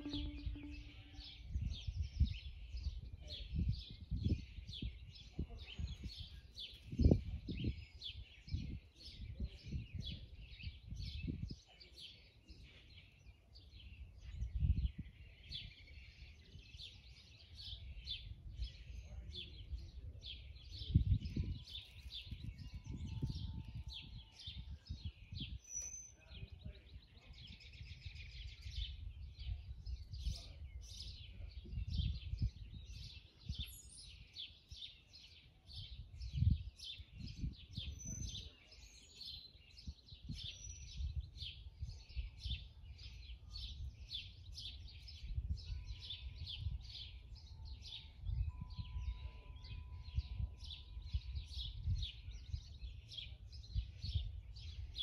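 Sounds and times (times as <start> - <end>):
small birds chirping: 0.0 - 55.0
wind gusts on microphone: 0.0 - 55.0.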